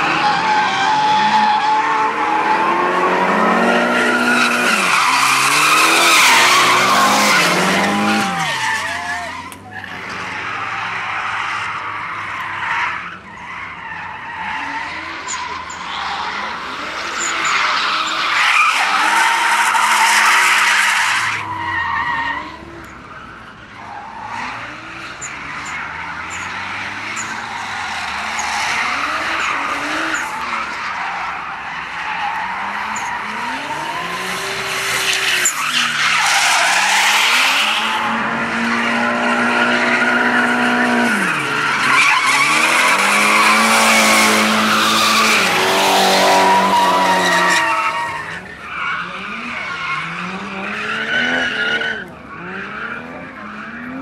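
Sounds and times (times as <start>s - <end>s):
car engines revving: 0.0s - 54.0s
tyres screeching on asphalt: 0.0s - 54.0s.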